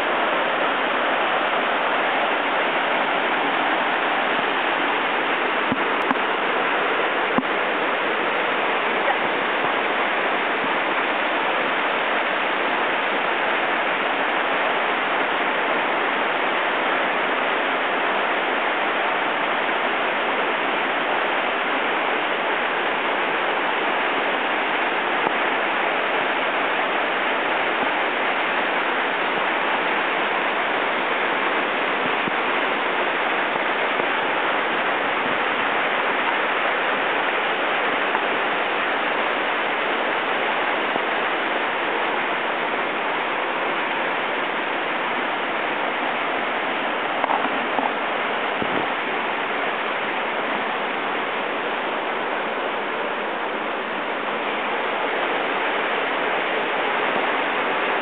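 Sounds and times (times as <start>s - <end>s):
waterfall crashing onto rocks: 0.0s - 58.0s.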